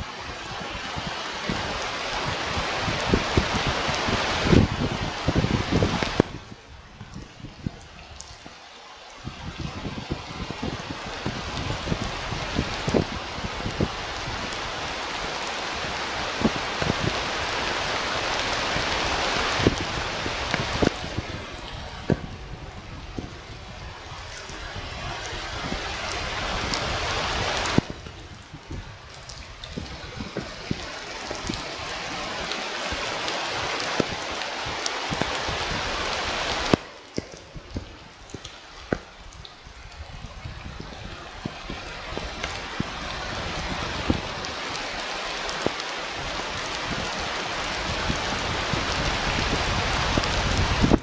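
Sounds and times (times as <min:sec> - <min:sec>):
rain hiss: 0:00.0 - 0:51.0
raindrops tapping: 0:00.2 - 0:51.0.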